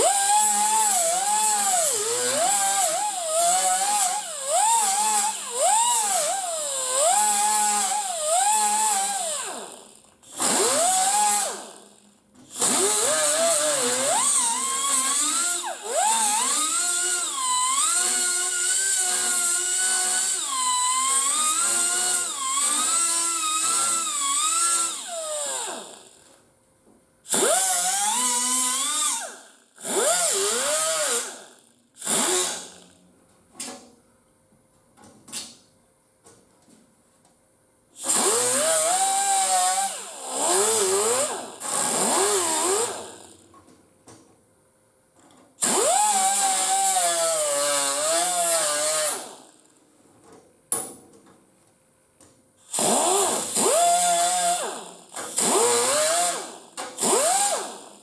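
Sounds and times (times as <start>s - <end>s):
power tool whining on sheet metal: 0.0s - 26.3s, 27.3s - 32.9s, 38.0s - 43.5s, 45.6s - 49.6s, 52.7s - 58.0s.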